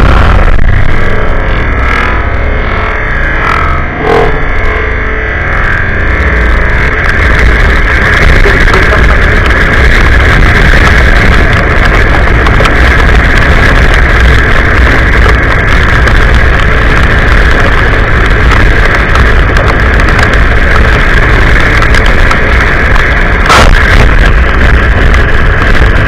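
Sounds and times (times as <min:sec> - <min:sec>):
deep rumble: 0:00.0 - 0:26.0
wind rushing over microphone: 0:00.0 - 0:26.0.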